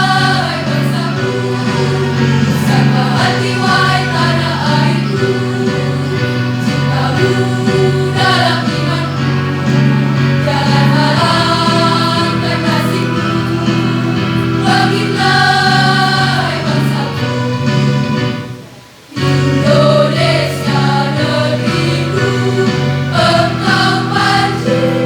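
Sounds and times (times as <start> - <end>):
choir singing in parts: 0.0 - 25.0.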